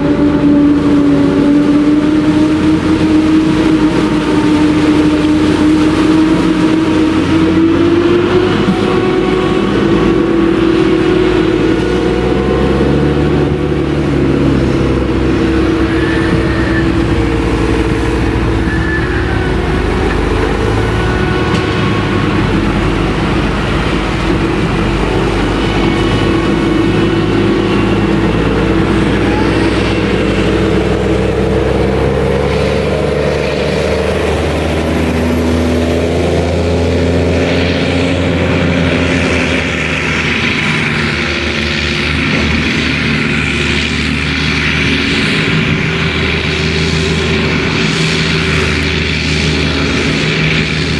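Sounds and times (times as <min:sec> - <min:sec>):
heavy engines droning: 0:00.0 - 0:50.9.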